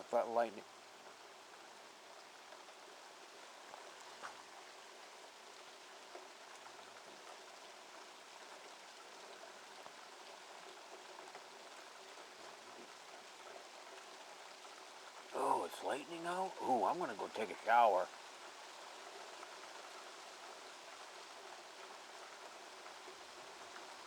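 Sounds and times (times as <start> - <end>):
faint rain falling: 0.0 - 24.0.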